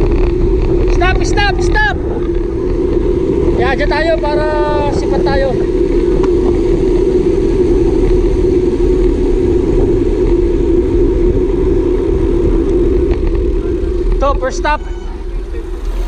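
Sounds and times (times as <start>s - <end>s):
low rumble: 0.0s - 16.0s
wind roar on microphone: 0.0s - 16.0s.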